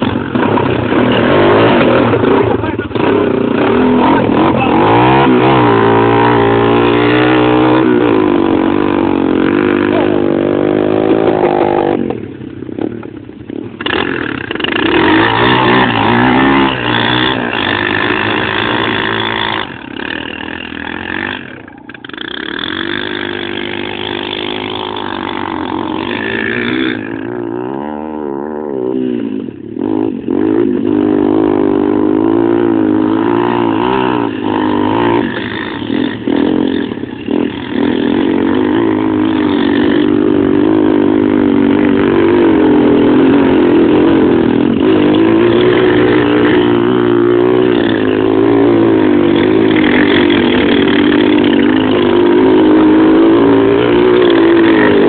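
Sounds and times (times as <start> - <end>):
quad engines revving: 0.0 - 55.0.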